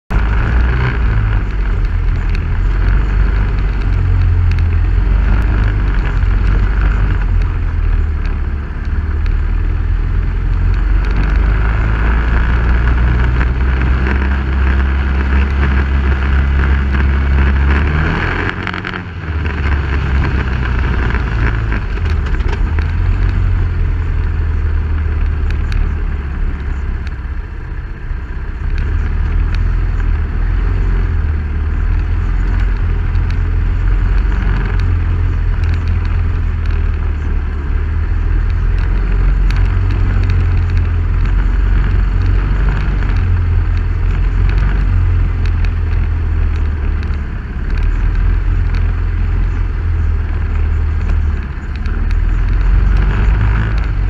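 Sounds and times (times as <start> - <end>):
heavy low rumble: 0.0 - 54.0
off-road vehicle engine: 0.0 - 54.0.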